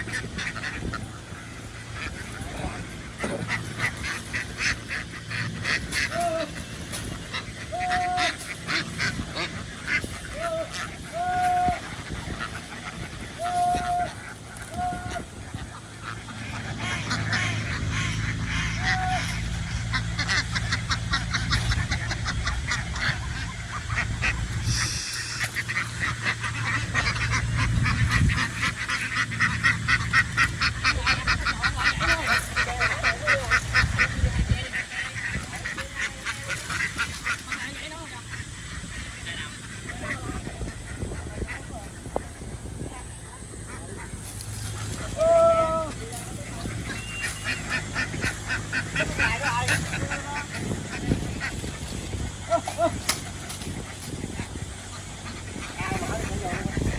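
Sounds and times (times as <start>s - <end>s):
duck honking calls: 0.0s - 56.9s
ducks quacking: 0.0s - 56.9s.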